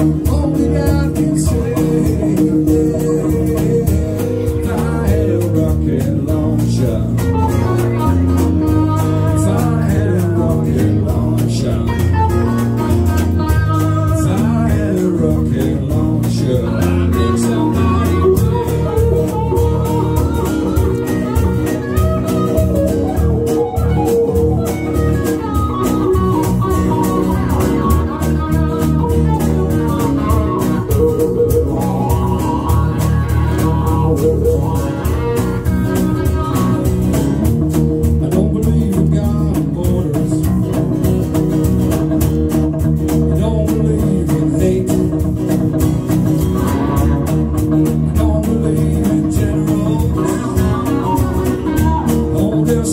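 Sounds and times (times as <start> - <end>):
blues rock band playing: 0.0 - 52.9.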